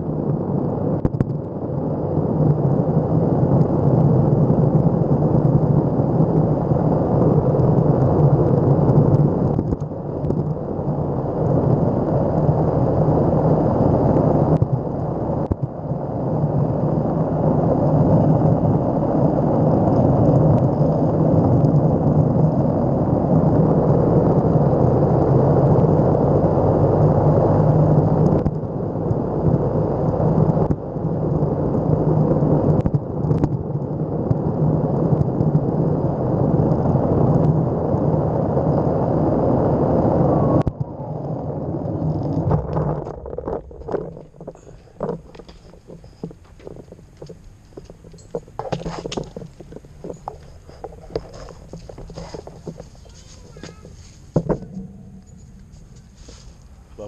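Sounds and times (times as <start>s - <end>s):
wheels rumbling over pavement: 0.0s - 57.0s
wind buffeting microphone: 0.0s - 57.0s.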